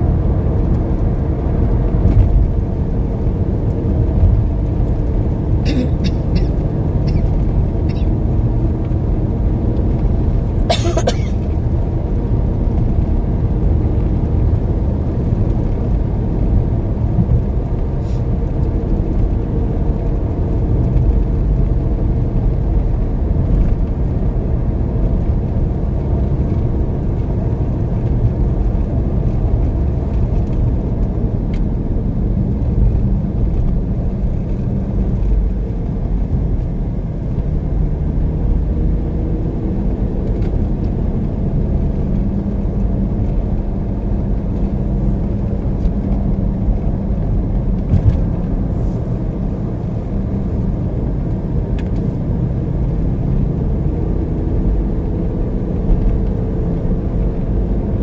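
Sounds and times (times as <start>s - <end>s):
car interior road rumble: 0.0s - 58.0s.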